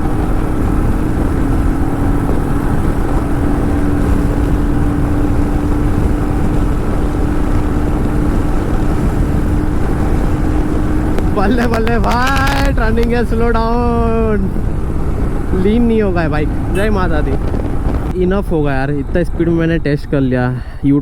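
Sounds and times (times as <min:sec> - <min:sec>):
motorcycle engine drone: 0:00.0 - 0:20.5
wind and road noise: 0:00.0 - 0:21.0.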